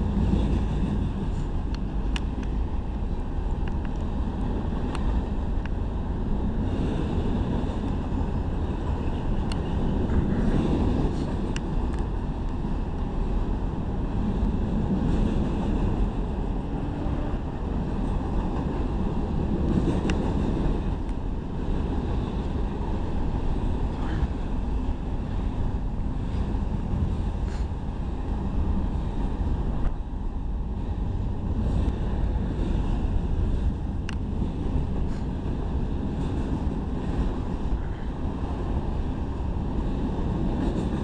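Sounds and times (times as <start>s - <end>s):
train wheels rumbling on rail: 0.0s - 41.0s
wind buffeting microphone: 0.0s - 41.0s.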